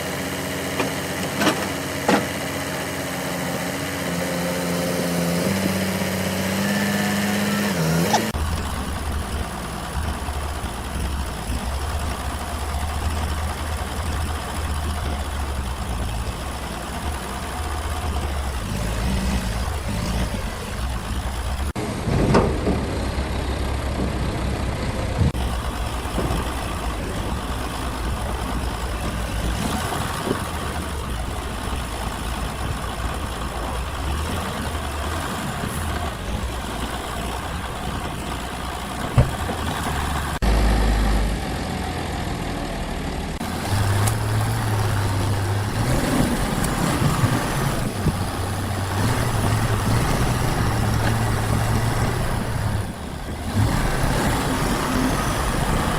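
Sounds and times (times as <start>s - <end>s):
heavy engine humming: 0.0s - 55.9s.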